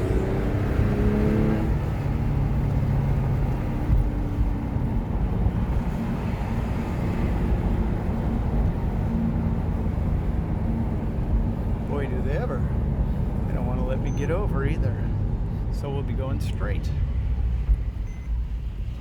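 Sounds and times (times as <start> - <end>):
road noise rumble: 0.0 - 19.0.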